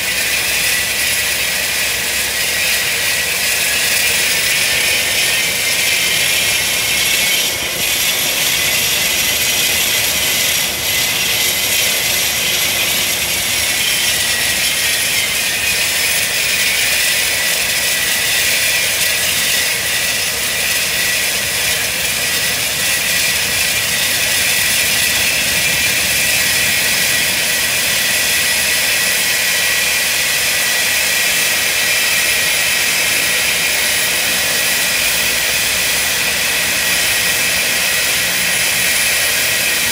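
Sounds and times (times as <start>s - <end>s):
turboprop engine running: 0.0s - 39.9s.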